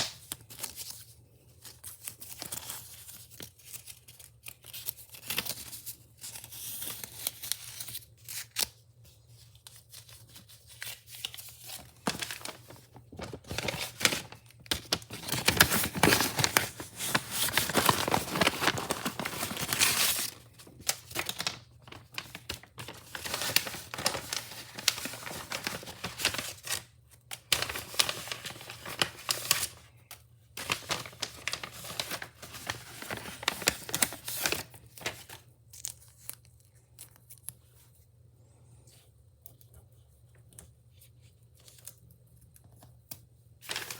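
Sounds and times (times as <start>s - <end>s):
wrapping tearing and crinkling: 0.0s - 37.8s, 43.1s - 43.9s.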